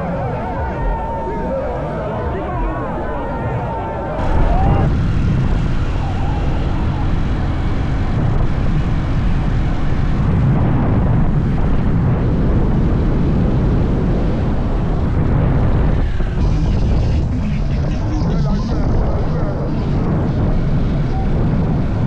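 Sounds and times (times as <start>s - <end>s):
loud low rumbling: 0.0s - 22.0s.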